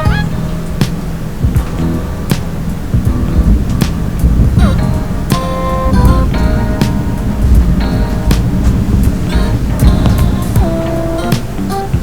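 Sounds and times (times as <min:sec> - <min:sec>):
drum hits: 0:00.0 - 0:12.0
music with heavy bass: 0:00.0 - 0:12.0
synth tones: 0:00.0 - 0:12.0.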